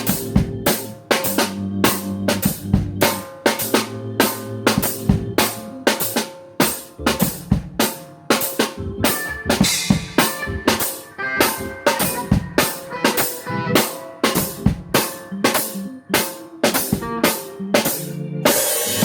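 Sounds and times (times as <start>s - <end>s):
drum kit steady beat: 0.0s - 19.0s
live band playing: 0.0s - 19.0s.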